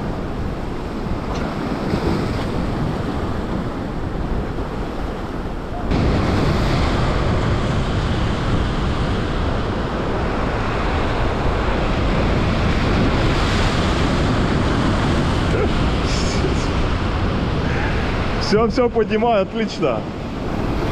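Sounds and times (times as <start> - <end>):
sea surf: 0.0 - 20.9
wind buffeting microphone: 0.0 - 20.9.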